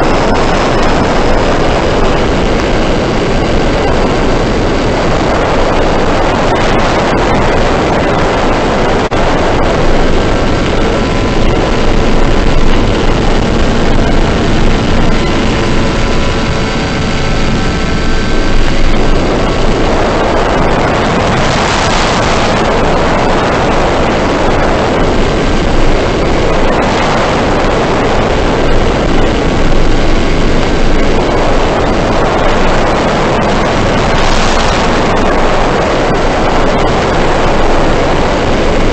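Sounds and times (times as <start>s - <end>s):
wind rush over microphone: 0.0s - 38.9s.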